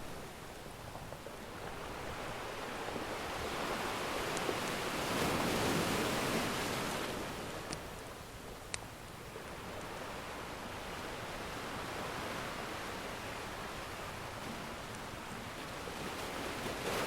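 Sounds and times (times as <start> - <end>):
ocean surf washing ashore: 0.0 - 17.0.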